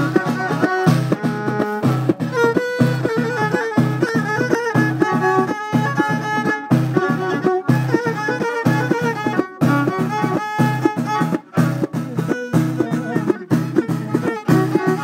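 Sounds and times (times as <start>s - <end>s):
hand-beaten frame drums: 0.0s - 15.0s
violin bowing lively melody: 0.0s - 15.0s.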